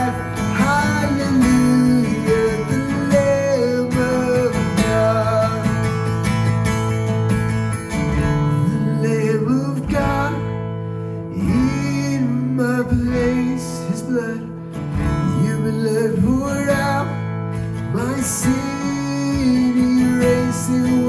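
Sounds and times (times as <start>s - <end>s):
strummed acoustic guitar: 0.0s - 21.0s
worship band music: 0.0s - 21.0s.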